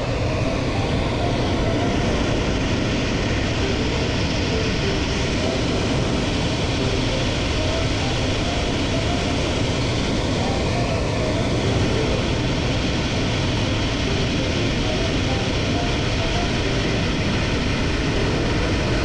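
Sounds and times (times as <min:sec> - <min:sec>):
running car rumble: 0:00.0 - 0:19.0.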